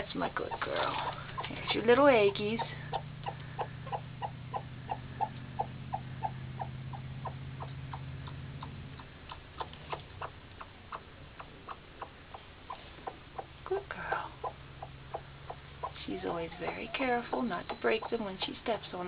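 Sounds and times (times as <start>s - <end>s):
hen clucking: 0.0s - 19.0s
low hum: 0.0s - 19.0s.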